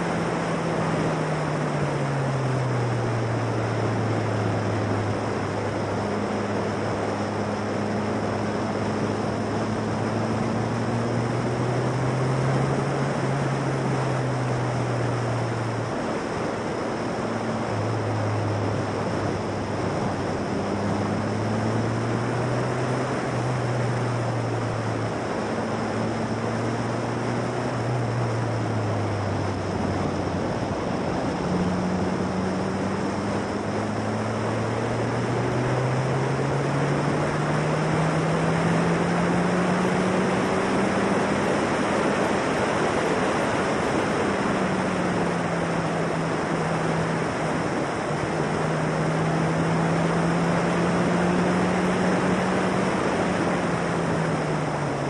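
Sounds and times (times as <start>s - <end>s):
race car engine revving: 0.0s - 55.0s
wind rush on microphone: 0.0s - 55.0s.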